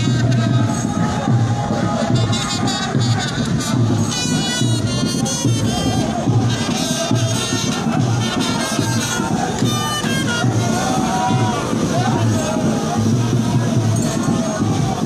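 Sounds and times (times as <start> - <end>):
music with low beat: 0.0 - 15.0.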